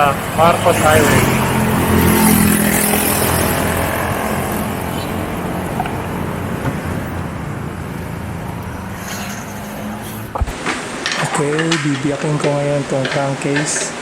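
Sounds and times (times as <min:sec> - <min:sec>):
tyres rushing and passing traffic: 0:00.0 - 0:14.0
vehicle engine hum: 0:00.0 - 0:14.0.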